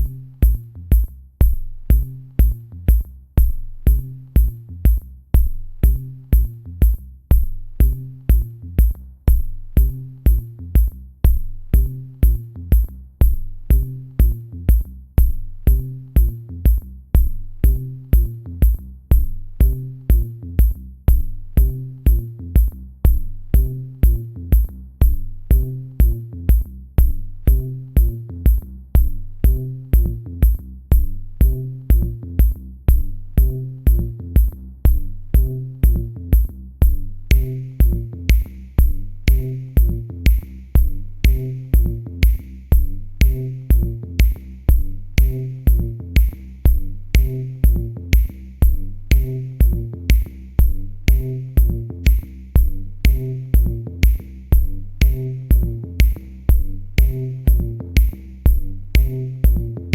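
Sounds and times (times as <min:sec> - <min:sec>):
bass line: 0:00.0 - 0:59.9
drum machine beat: 0:00.0 - 0:59.9.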